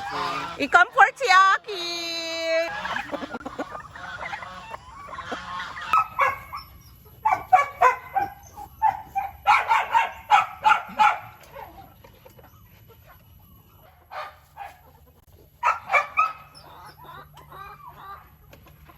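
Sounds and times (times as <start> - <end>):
farm animal calling: 0.0 - 18.9.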